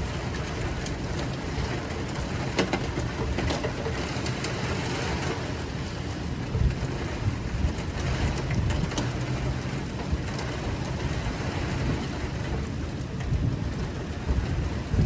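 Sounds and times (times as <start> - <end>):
car driving rumble: 0.0 - 15.0
steady rain: 0.0 - 15.0.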